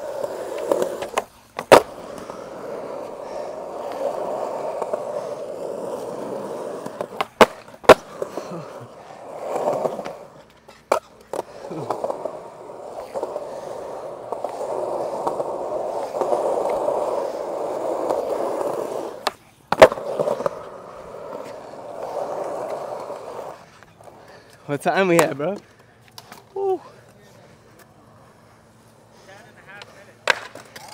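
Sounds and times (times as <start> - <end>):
skateboard clacks: 0.0 - 27.9, 28.7 - 30.9
skateboard wheels rolling on concrete: 0.0 - 30.9.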